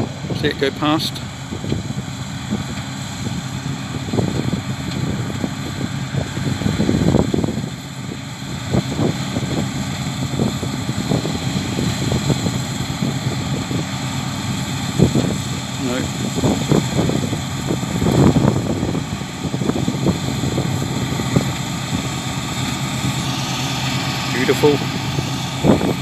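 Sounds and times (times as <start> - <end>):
combine harvester engine drone: 0.0 - 26.0
low rumbles: 0.0 - 26.0.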